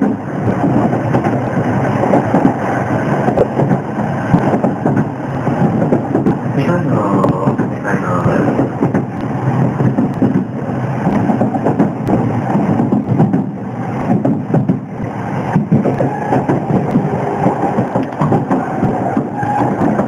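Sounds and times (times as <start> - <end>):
train rumble and rail clatter: 0.0 - 20.0.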